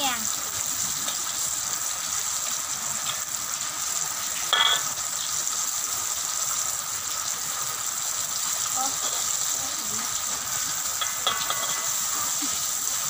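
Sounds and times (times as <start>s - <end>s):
squid deep-frying in oil: 0.0s - 13.0s.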